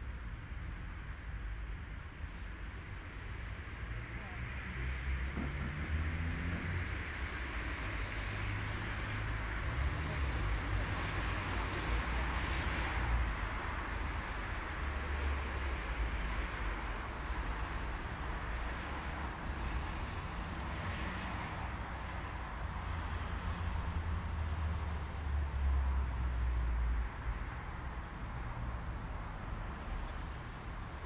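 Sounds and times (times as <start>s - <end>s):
distant city traffic: 1.0s - 31.0s.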